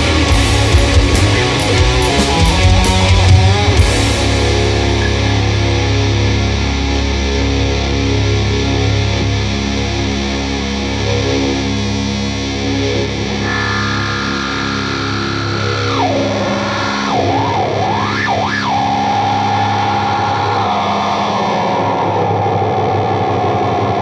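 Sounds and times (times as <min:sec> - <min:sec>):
distorted guitar and bass chord: 0:00.0 - 0:24.0
high wavering guitar tone: 0:00.0 - 0:24.0.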